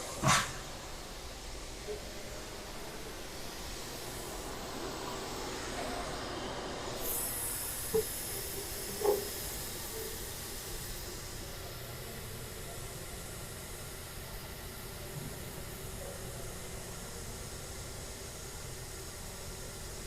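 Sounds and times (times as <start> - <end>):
cnc router axis drive hissing: 0.0 - 20.0.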